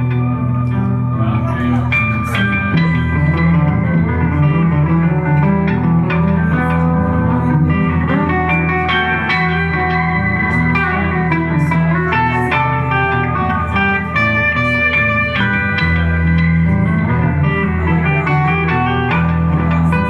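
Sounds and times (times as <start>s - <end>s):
bass line: 0.0s - 20.0s
guitar: 0.0s - 20.0s
live band music: 0.0s - 20.0s.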